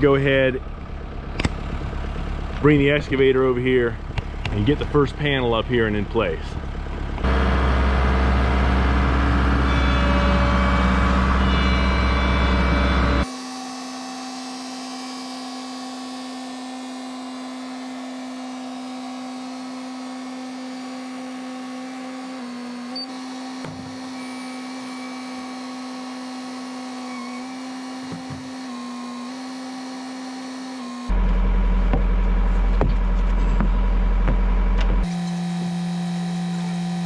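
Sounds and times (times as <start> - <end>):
steady motor hum: 0.0 - 37.0.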